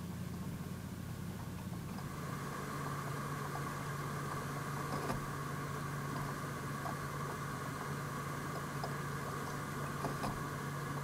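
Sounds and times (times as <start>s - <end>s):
fan whine: 0.0s - 11.0s
server fans humming: 0.0s - 11.0s.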